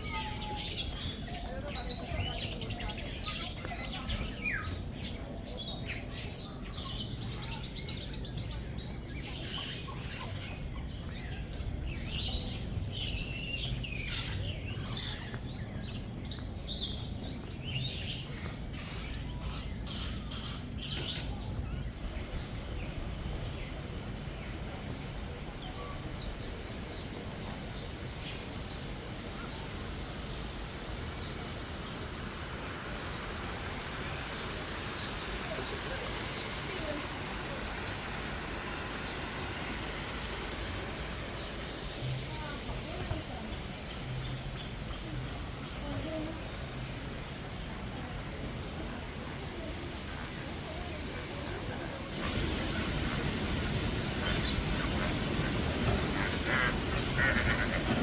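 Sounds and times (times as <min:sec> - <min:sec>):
high-pitched insect-like whine: 0:00.0 - 0:58.0
small birds chirping and trilling: 0:00.0 - 0:58.0.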